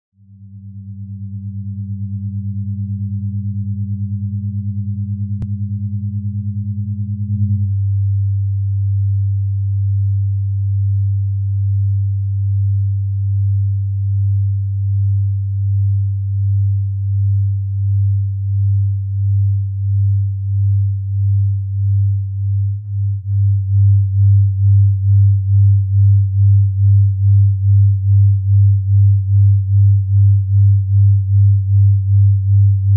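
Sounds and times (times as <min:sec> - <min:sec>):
deep electronic hum: 0:00.2 - 0:32.9
higher sine tone: 0:00.2 - 0:32.9.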